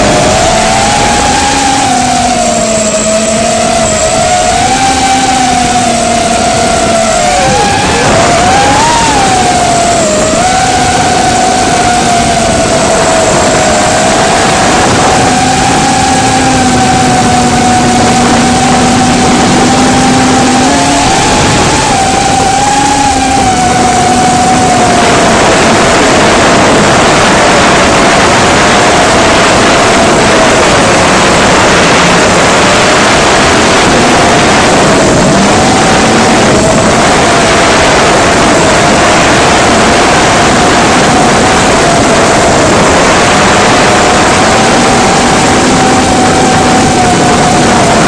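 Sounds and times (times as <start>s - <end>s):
quadcopter motors whining: 0.0s - 48.0s
wind rushing on microphone: 0.0s - 48.0s.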